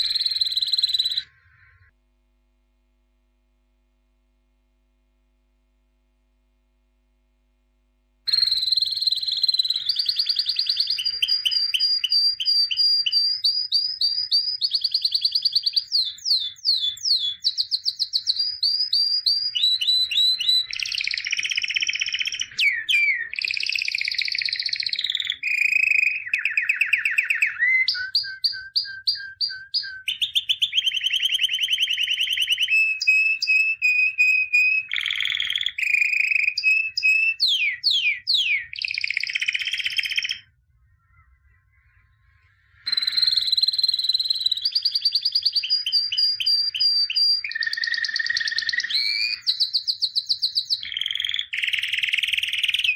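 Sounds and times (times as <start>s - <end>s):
songbird singing trills: 0.0s - 1.9s, 8.3s - 52.9s.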